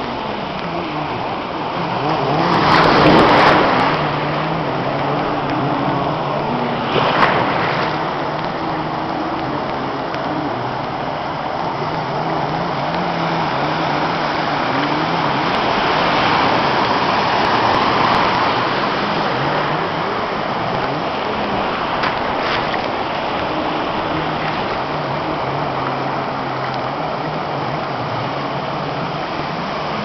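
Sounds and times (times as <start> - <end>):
jet ski engine running: 0.0 - 30.0
water spray rushing: 0.0 - 30.0
wind: 0.0 - 30.0.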